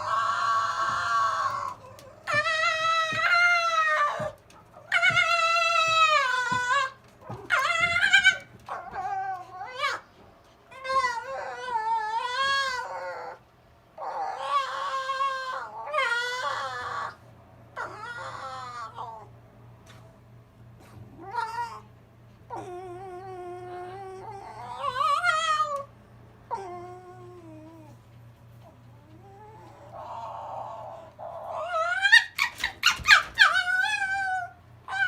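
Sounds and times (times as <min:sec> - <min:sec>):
fox whining: 0:00.0 - 0:17.2, 0:17.8 - 0:19.4, 0:20.8 - 0:21.9, 0:22.5 - 0:35.0.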